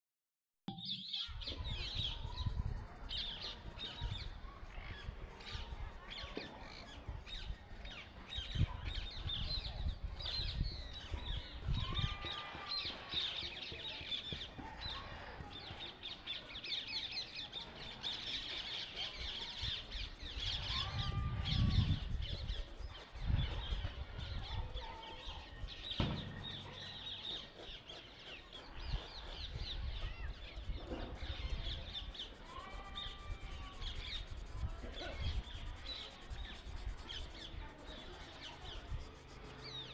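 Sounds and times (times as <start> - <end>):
small birds chirping: 0.7 - 39.9
loud bird calls: 0.8 - 39.9.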